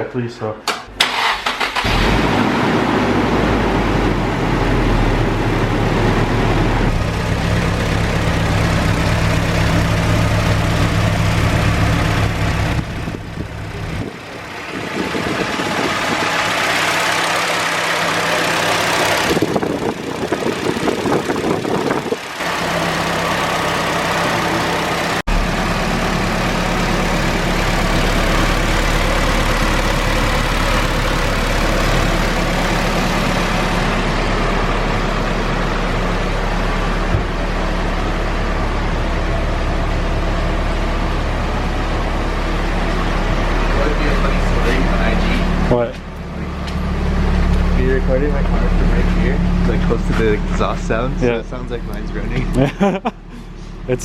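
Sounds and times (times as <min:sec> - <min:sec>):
car engine idling: 0:00.9 - 0:54.0.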